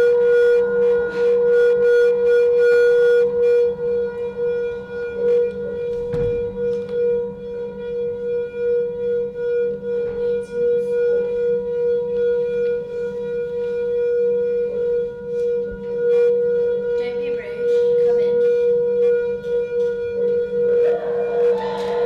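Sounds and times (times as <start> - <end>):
sustained musical drone: 0.0 - 22.0.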